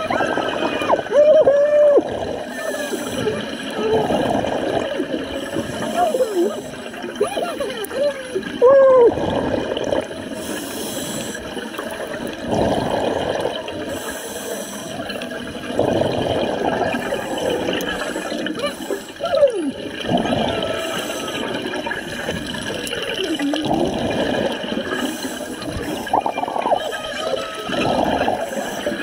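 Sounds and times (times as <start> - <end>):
water splashing and sloshing: 0.0 - 29.0.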